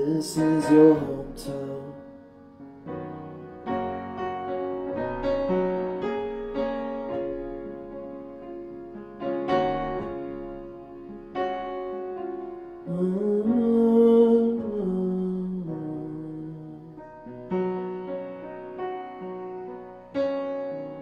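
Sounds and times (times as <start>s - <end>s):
upright piano chords: 0.0s - 21.0s.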